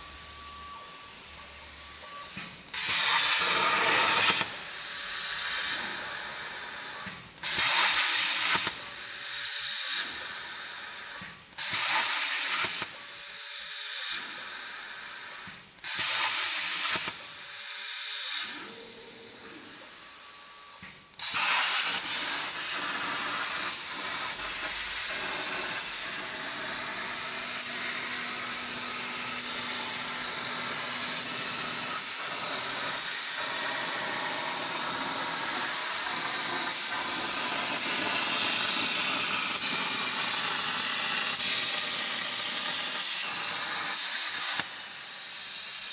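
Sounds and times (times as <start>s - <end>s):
plasma cutter hissing: 0.2s - 45.9s.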